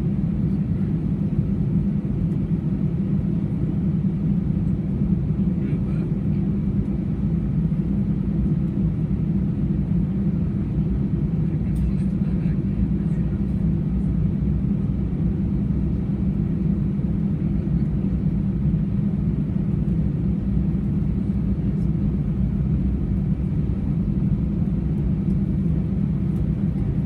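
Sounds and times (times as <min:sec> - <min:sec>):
aircraft engine rumble in cabin: 0:00.0 - 0:27.0.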